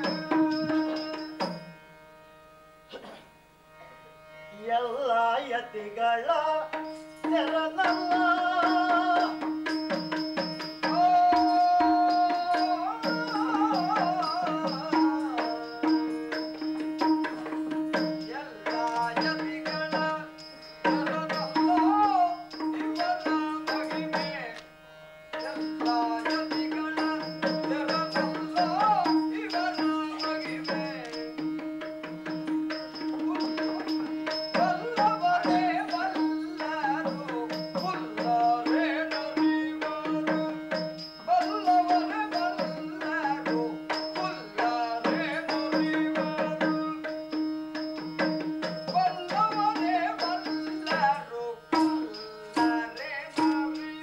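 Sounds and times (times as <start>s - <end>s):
person singing: 0.0s - 1.5s, 3.8s - 9.8s, 10.6s - 24.7s, 25.3s - 54.0s.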